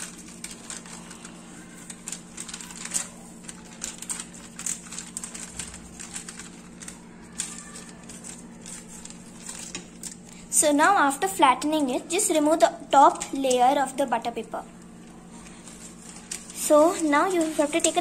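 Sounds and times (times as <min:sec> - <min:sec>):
paper crinkling: 0:00.0 - 0:11.0, 0:12.6 - 0:18.0.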